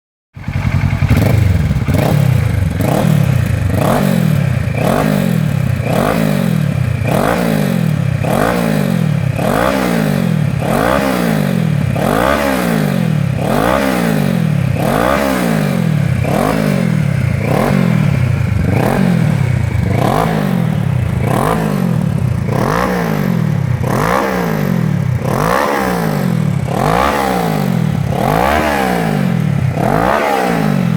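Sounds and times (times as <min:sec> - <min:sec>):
motorcycle engine revving: 0:00.4 - 0:30.9.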